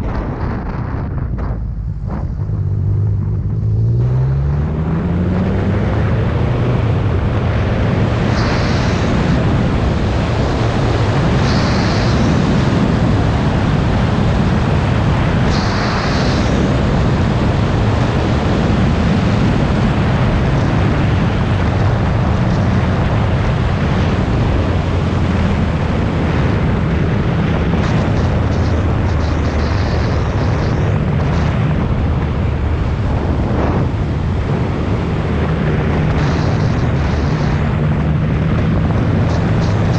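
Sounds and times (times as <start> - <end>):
motorcycle engine drone: 0.0 - 39.9
wind rushing over camera: 0.0 - 39.9.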